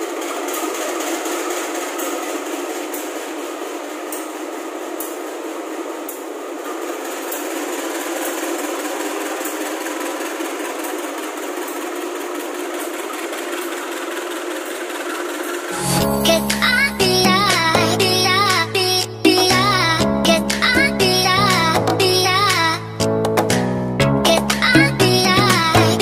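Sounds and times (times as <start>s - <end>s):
train on rails: 0.0s - 23.0s.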